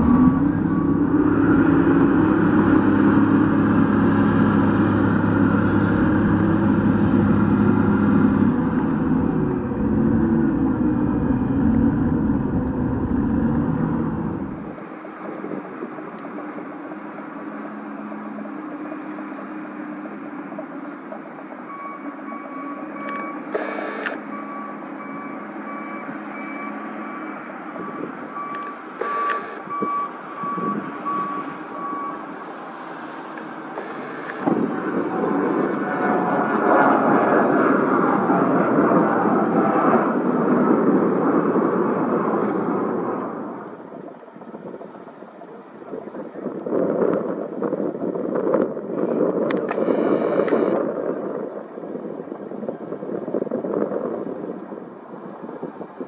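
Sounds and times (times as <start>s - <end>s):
engine power rush: 0.0s - 44.8s, 48.8s - 50.9s
turboprop engines whining: 0.0s - 56.0s.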